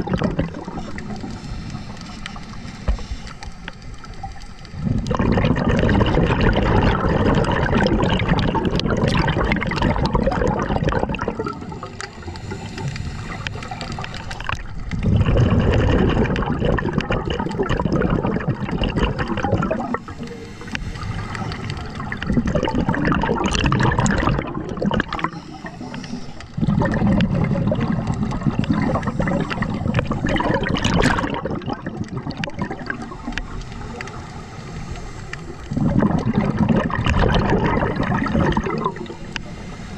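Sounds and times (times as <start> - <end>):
diver exhaling bubbles underwater: 0.0 - 3.2, 4.8 - 34.1, 35.4 - 39.8.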